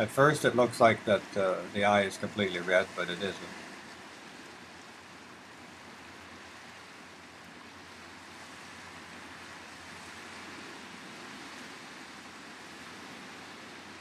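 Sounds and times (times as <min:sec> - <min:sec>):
surf on rocky shore: 0:00.0 - 0:14.0.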